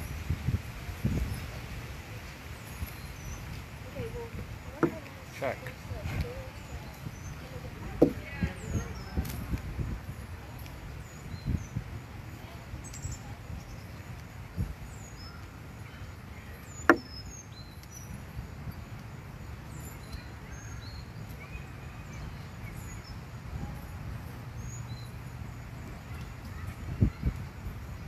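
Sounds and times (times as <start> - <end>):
low rumble of wind or traffic: 0.0 - 28.0
small birds chirping: 0.0 - 28.0.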